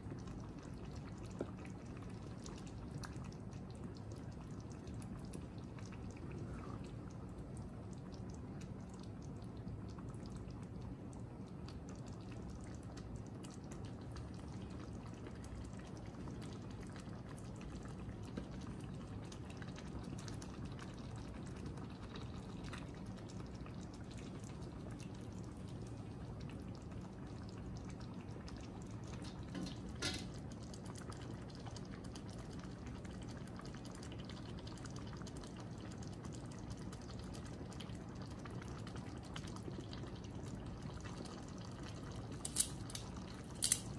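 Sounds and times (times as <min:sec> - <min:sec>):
sauce bubbling in a pot: 0:00.0 - 0:43.9.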